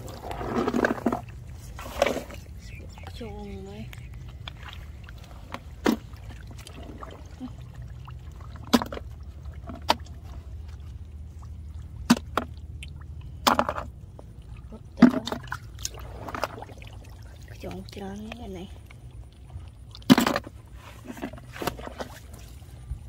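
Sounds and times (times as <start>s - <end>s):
small wet splashes: 0.0s - 23.0s
steady low rumble: 0.0s - 23.0s.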